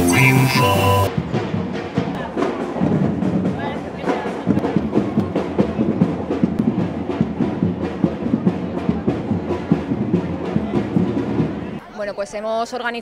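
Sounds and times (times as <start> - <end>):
music with quick drum beat: 0.0 - 11.8.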